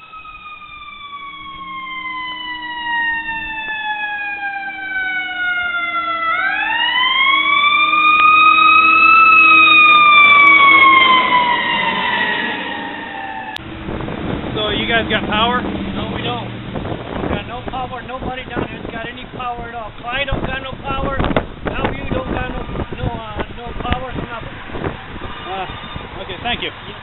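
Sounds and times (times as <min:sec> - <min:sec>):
emergency vehicle siren wailing: 0:00.0 - 0:27.0.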